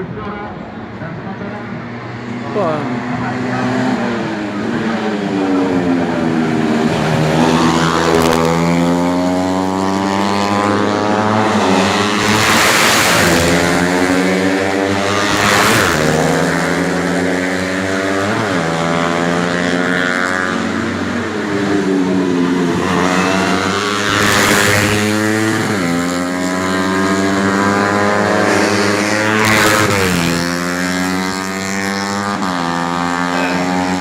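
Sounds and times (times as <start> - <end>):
motorcycles passing close by: 0.0 - 34.0
racing motorcycles at high revs: 1.2 - 34.0.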